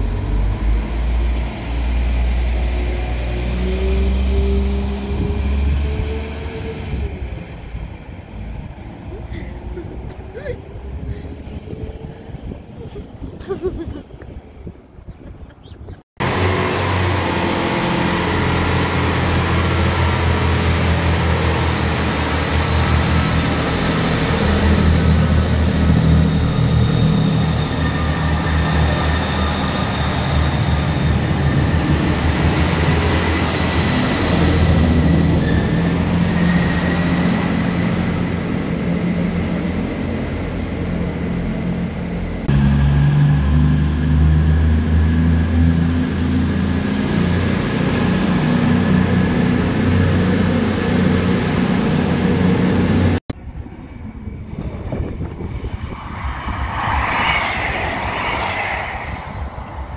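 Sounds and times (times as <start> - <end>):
diesel train engines droning: 0.0 - 15.0, 16.2 - 59.9
loud diesel train engines: 0.0 - 15.6, 16.2 - 59.9.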